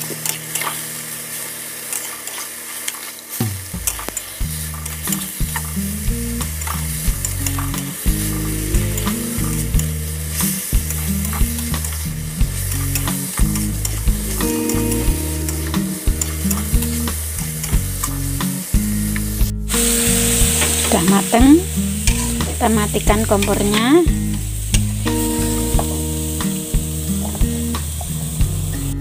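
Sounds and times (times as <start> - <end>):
stir-fry sizzling: 0.0 - 29.0
low tones shifting in pitch: 5.6 - 29.0.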